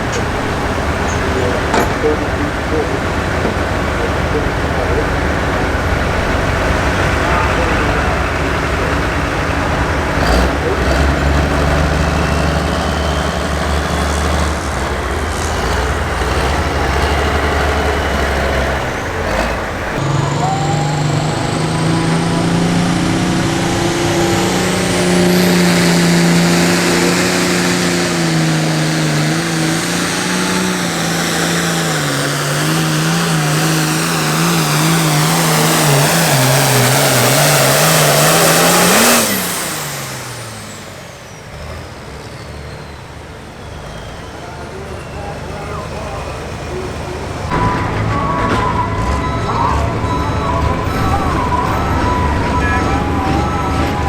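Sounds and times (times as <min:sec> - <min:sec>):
tractor diesel engine pulling: 0:00.0 - 0:54.0
turbo whine: 0:00.0 - 0:54.0.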